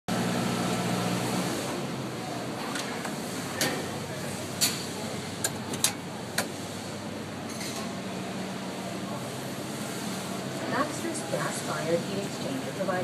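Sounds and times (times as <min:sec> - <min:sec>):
crowd chatter in a hall: 0:01.2 - 0:13.0.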